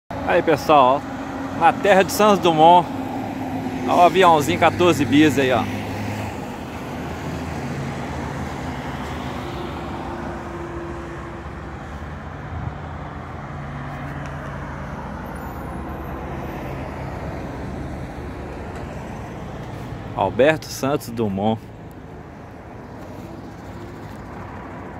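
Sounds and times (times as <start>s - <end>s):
road traffic passing: 0.1s - 24.9s.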